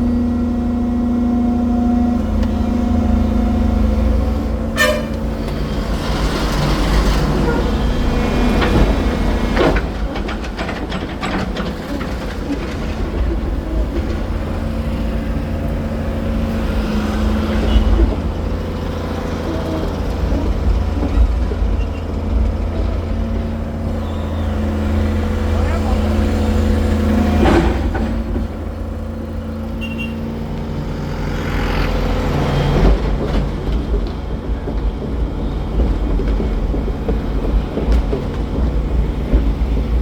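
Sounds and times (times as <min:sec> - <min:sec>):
heavy diesel machine rumbling: 0:00.0 - 0:40.0.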